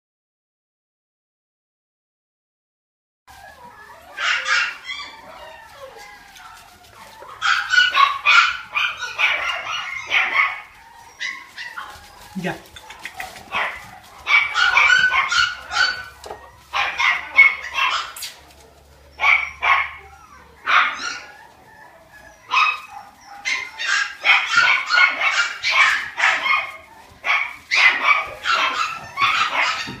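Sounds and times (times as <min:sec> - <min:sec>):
puppies yapping: 0:03.3 - 0:30.0.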